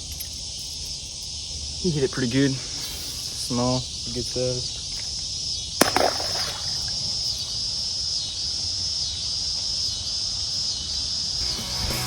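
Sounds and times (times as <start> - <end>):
insects chirring: 0.0 - 11.4.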